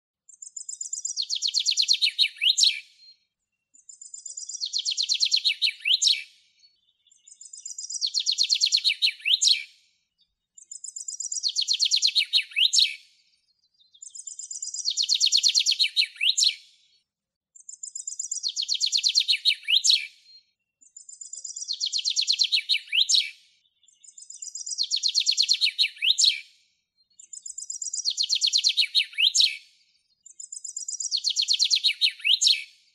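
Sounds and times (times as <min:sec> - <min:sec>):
chaffinch singing: 0:00.3 - 0:02.8, 0:03.7 - 0:09.7, 0:10.5 - 0:13.0, 0:13.8 - 0:16.6, 0:17.6 - 0:20.1, 0:20.8 - 0:26.4, 0:27.1 - 0:29.6, 0:30.2 - 0:32.6.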